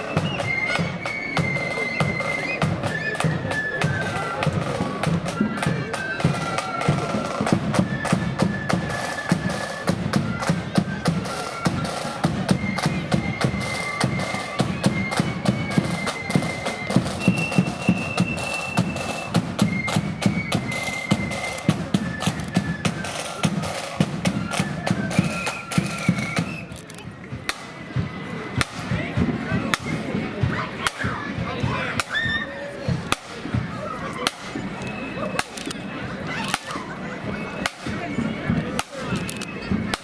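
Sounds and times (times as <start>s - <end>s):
snare drum rolls: 0.0s - 35.6s, 37.6s - 40.0s
flutes playing melody: 0.0s - 40.0s.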